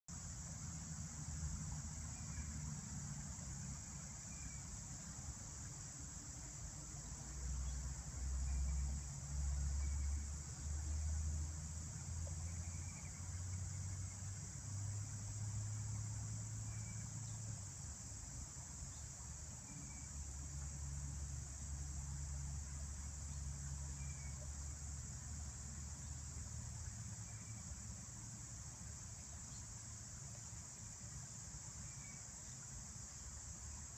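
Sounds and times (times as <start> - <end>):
crickets trilling: 0.1 - 33.9.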